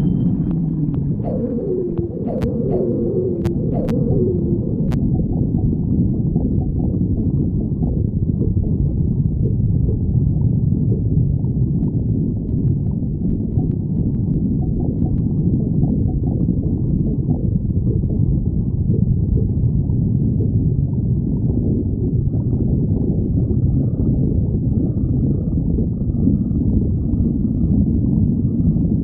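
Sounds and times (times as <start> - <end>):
stomach growling: 0.0 - 29.0.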